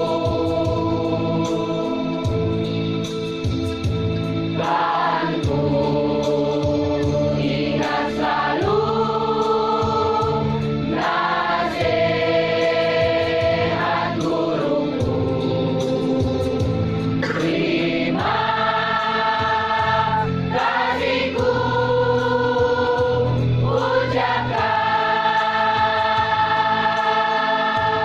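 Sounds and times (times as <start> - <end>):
mixed choir singing: 0.0 - 2.8, 4.6 - 28.0
organ-like keyboard: 0.0 - 28.0.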